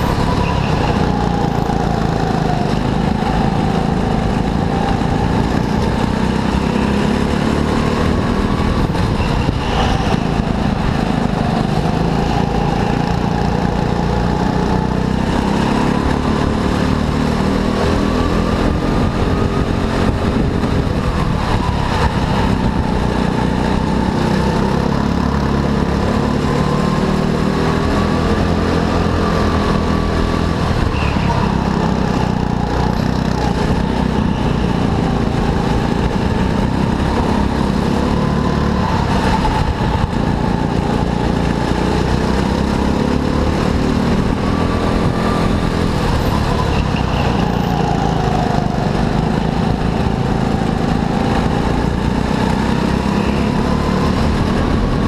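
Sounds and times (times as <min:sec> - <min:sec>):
go-kart engine racing: 0:00.0 - 0:55.0.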